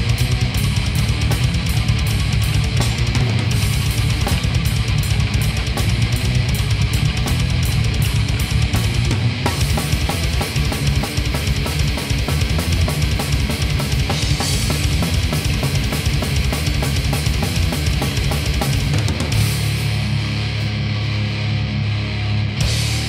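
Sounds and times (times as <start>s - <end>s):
fast drum beat: 0.0s - 19.8s
distorted guitar: 0.0s - 23.0s.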